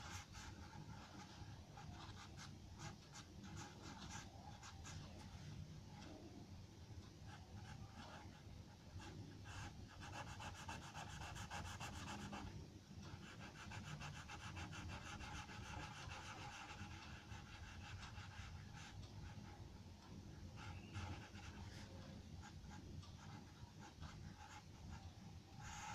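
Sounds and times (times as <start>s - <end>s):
pencil scratching on paper: 0.0s - 5.4s, 9.0s - 19.6s, 20.5s - 25.0s, 25.6s - 25.9s.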